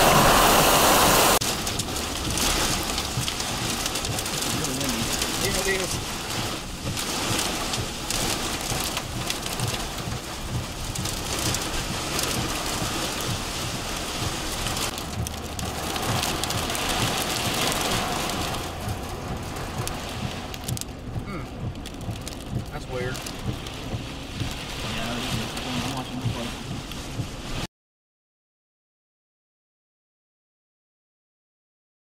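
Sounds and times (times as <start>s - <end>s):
heavy rain pelting a vehicle: 0.0s - 27.7s.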